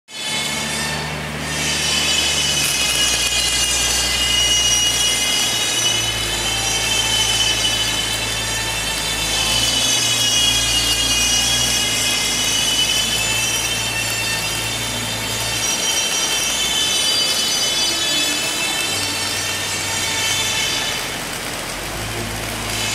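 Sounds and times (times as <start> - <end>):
welding arc crackling: 0.1 - 22.9
fume extractor whine: 0.4 - 22.9.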